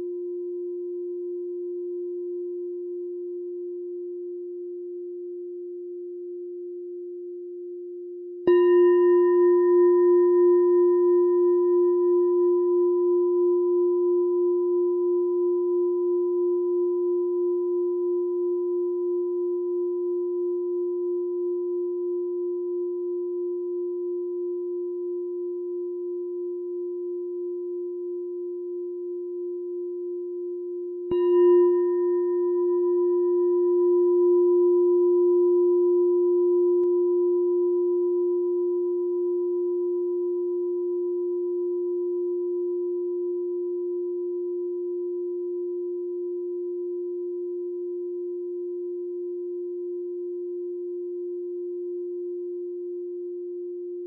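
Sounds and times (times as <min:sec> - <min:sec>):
meditation bell ringing: 0:08.4 - 0:54.0.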